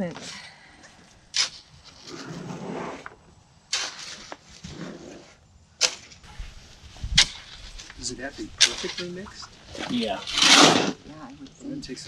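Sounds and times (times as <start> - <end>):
shovel scraping soil: 1.3 - 11.1.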